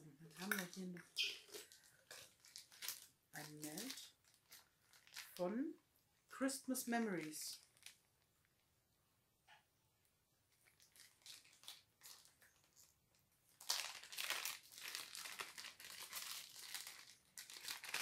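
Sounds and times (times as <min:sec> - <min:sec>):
plastic wrapper crinkling: 0:00.0 - 0:05.7, 0:07.0 - 0:08.6, 0:10.5 - 0:18.0.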